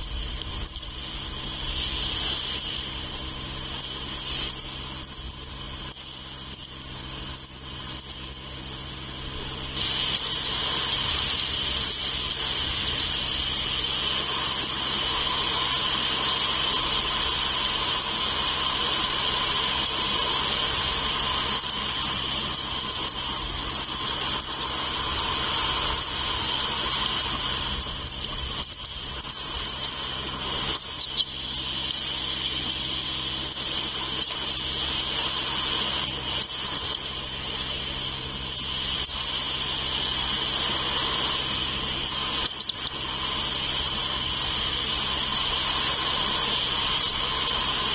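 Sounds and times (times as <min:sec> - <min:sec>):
insects chirring: 0:00.0 - 0:47.9
low steady hum: 0:00.0 - 0:47.9.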